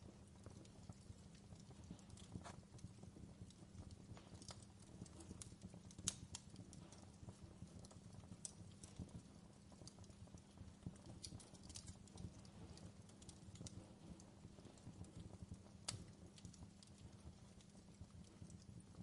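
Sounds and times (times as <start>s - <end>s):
fire crackling: 0.0s - 19.0s
low steady hum: 0.0s - 19.0s.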